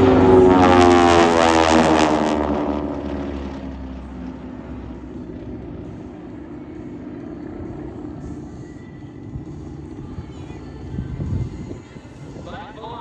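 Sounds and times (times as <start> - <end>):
propeller airplanes engine drone: 0.0 - 13.0.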